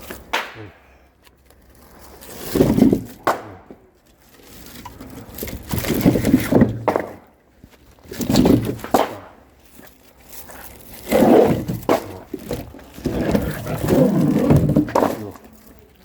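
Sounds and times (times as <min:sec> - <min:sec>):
logs knocking and scraping: 0:00.0 - 0:16.0.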